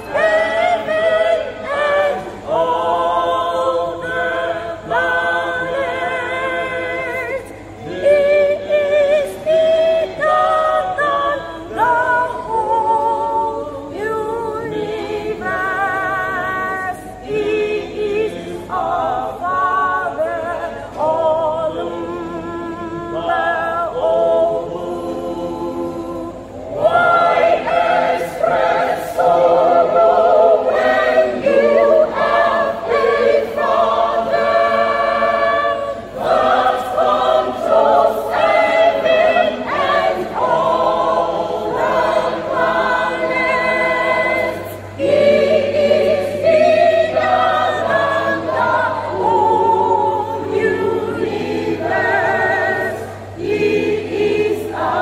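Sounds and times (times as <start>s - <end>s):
church choir singing: 0.0s - 55.0s.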